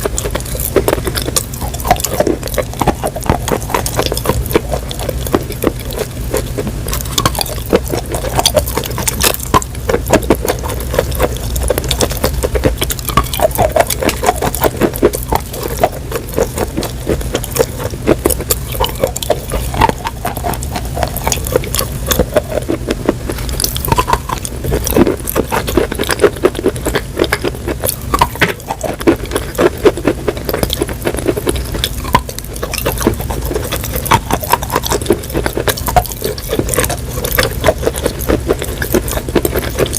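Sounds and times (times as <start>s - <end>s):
crisp brittle crunching: 0.0s - 39.9s
steady low hum: 0.0s - 39.9s.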